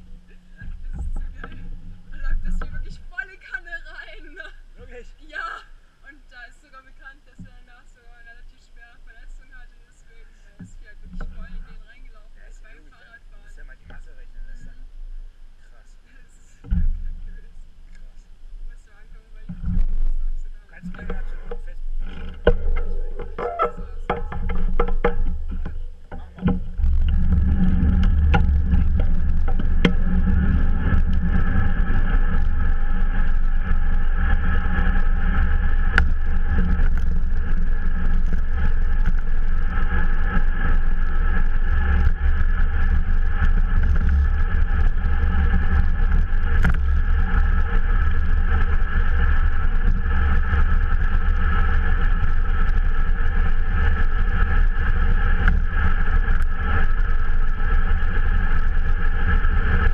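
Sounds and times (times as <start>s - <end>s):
bike tyres rolling on asphalt: 0.0s - 59.9s
wind on microphone: 0.0s - 59.9s.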